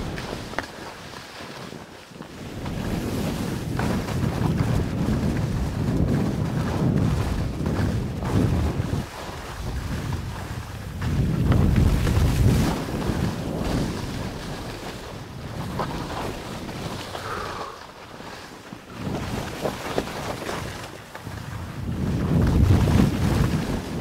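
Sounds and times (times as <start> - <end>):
wind rushing over microphone: 0.0 - 1.0, 1.6 - 24.0.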